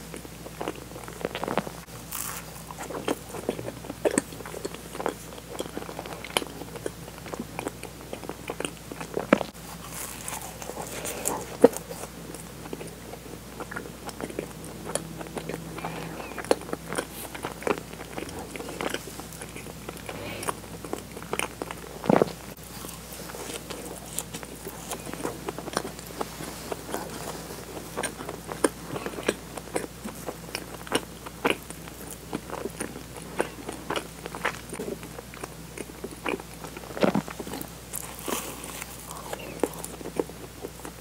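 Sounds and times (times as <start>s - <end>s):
person chewing with mouth clicks: 0.0s - 41.0s.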